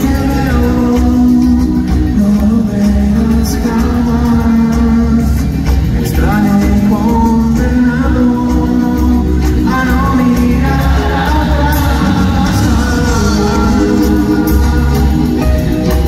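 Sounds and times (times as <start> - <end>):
double bass: 0.0 - 16.0
drums: 0.0 - 16.0
electric guitars: 0.0 - 16.0
live rock band playing: 0.0 - 16.0
person singing lead vocal: 0.0 - 16.0.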